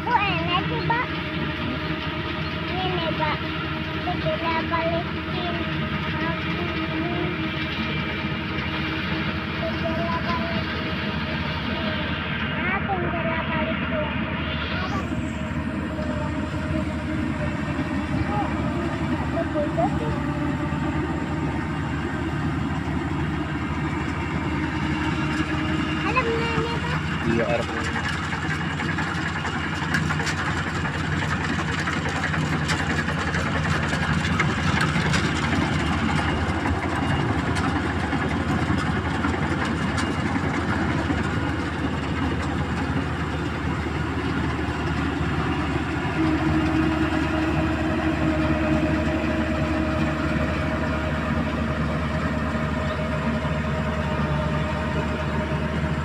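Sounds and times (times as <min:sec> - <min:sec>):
combine harvester running: 0:00.0 - 0:56.0
high machine whine: 0:00.0 - 0:56.0.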